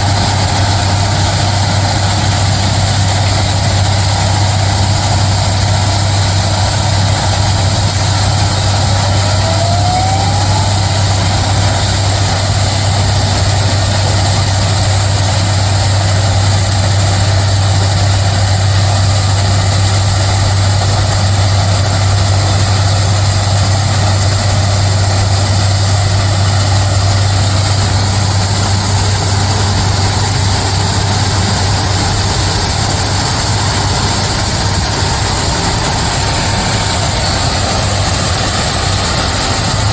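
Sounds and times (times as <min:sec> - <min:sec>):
diesel machinery droning: 0:00.0 - 0:39.9.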